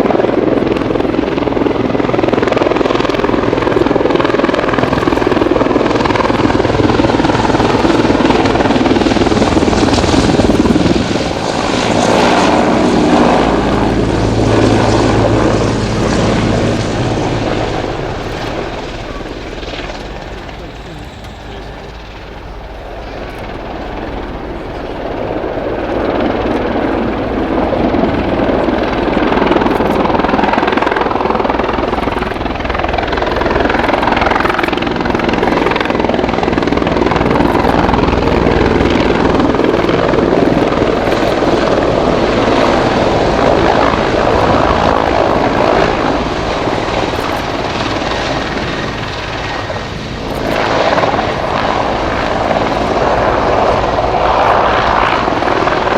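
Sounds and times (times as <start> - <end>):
helicopter rotor and engines: 0.0 - 55.9.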